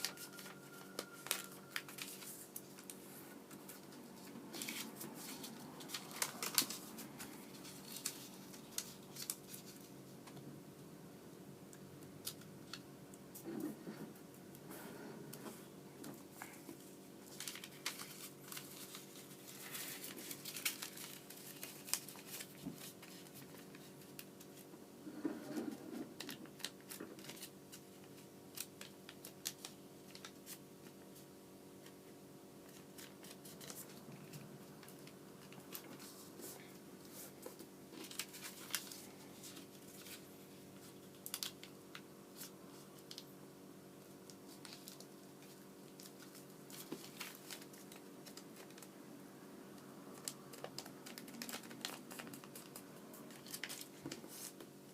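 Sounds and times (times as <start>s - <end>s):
paper crinkling and rustling: 0.0s - 10.4s, 15.3s - 24.7s, 25.4s - 32.0s, 32.6s - 43.3s, 44.2s - 49.0s, 50.1s - 54.8s
faint steady hum: 0.0s - 54.9s.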